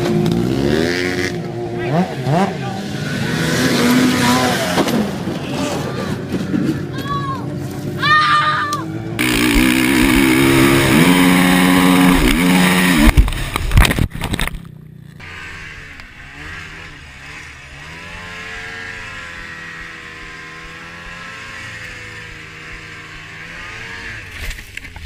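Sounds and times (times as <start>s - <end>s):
atv engine revving: 0.0s - 6.9s, 8.8s - 24.8s
snowmobile engine: 0.0s - 6.9s, 8.0s - 24.9s.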